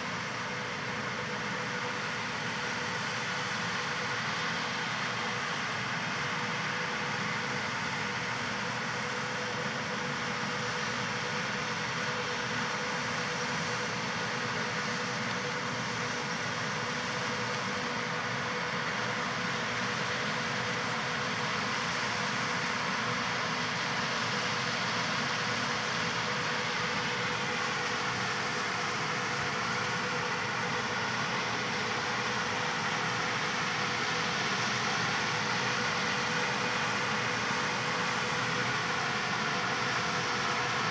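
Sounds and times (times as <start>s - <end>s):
tractor diesel engine: 0.0s - 40.9s.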